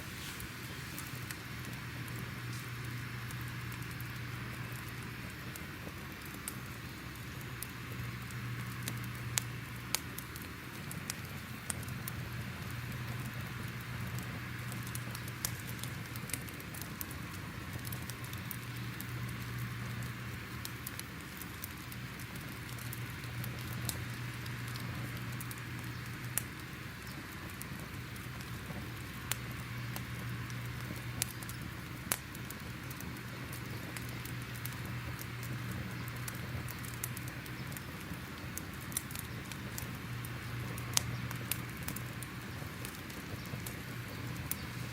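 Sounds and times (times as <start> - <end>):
fire crackling and popping: 0.0 - 44.9
steady low hum: 0.0 - 44.9.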